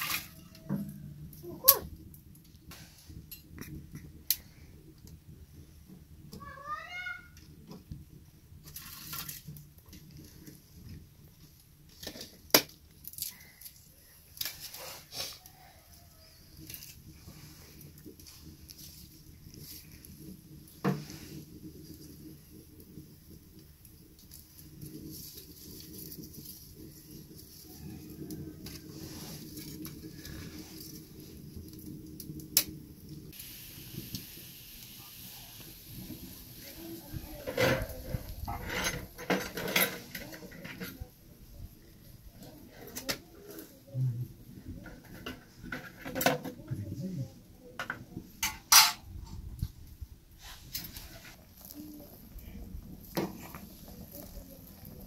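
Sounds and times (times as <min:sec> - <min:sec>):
firewood and straw rustling: 0:00.0 - 0:48.4, 0:49.2 - 0:55.0.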